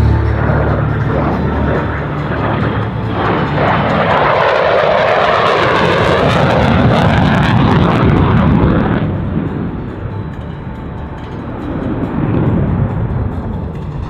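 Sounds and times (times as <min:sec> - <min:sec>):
jet passing overhead: 0:00.0 - 0:14.0.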